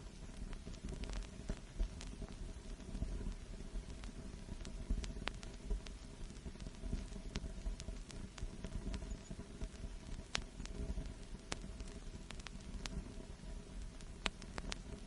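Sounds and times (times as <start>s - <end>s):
vinyl clicks and pops: 0.0s - 15.0s
vinyl record rumble and hiss: 0.0s - 15.0s.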